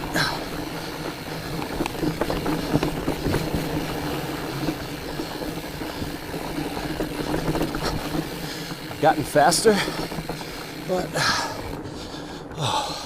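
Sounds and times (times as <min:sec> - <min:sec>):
bike clicks and rattles: 0:00.0 - 0:13.0
bike tyres rumbling: 0:00.0 - 0:13.0.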